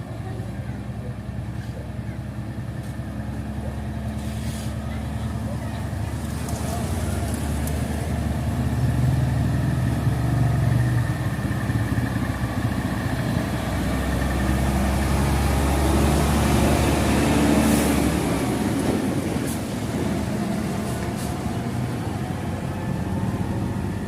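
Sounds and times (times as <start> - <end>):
heavy diesel engine drone: 0.0 - 24.0.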